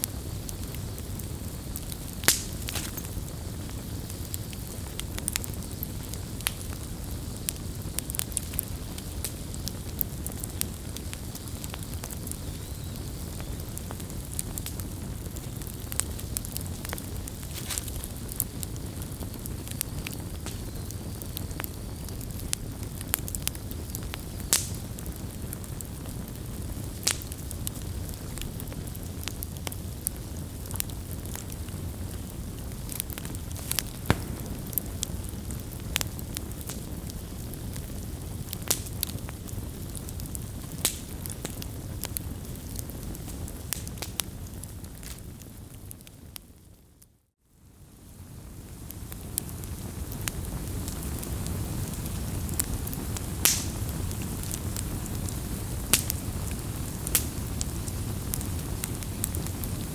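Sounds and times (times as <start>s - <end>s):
burning wood crackling and popping: 0.0s - 47.1s, 47.7s - 59.9s
low rumble of flames: 0.0s - 59.9s.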